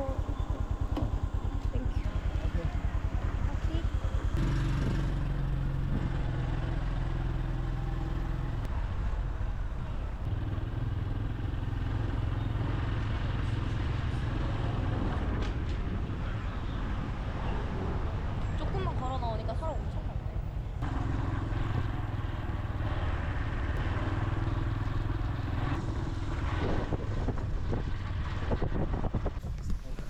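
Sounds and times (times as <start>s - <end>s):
motorcycle engine running: 0.0s - 15.4s, 19.0s - 30.0s
road and wind noise: 0.0s - 30.0s.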